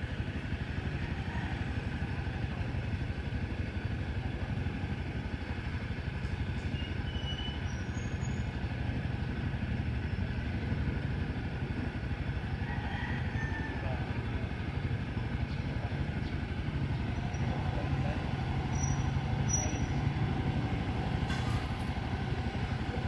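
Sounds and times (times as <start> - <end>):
heavy engine rumbling: 0.0 - 23.0.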